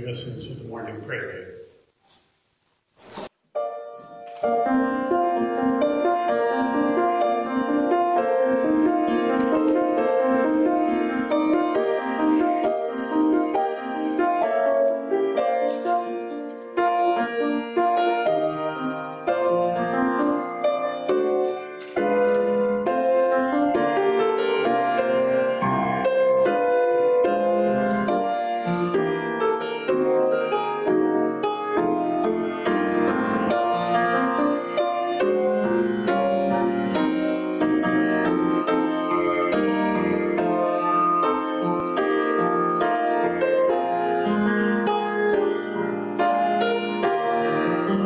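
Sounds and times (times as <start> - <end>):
gentle piano music: 3.5 - 48.0.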